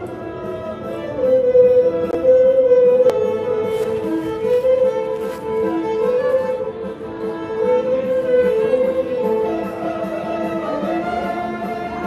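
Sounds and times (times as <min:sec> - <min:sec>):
solo violin melody: 0:00.0 - 0:12.0.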